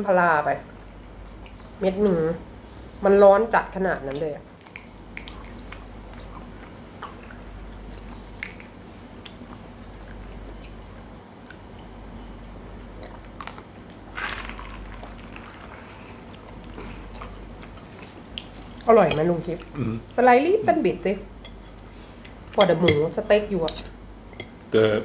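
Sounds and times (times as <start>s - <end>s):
people chewing food: 0.6s - 3.0s, 4.1s - 20.8s, 21.4s - 22.8s.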